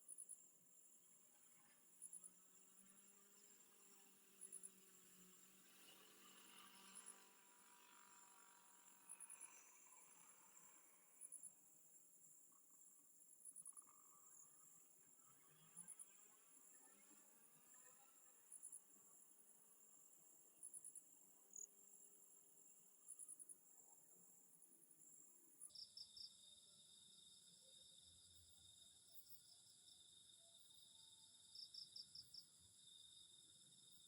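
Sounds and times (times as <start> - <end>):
crickets chirping: 0.0 - 34.0
lower-pitched insect trill: 0.0 - 34.0.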